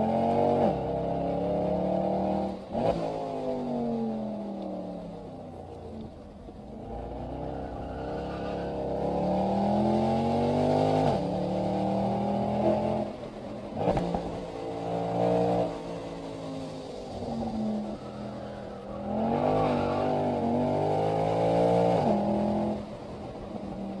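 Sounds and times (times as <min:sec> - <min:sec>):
car engine revving through gears: 0:00.0 - 0:05.2, 0:06.0 - 0:24.0.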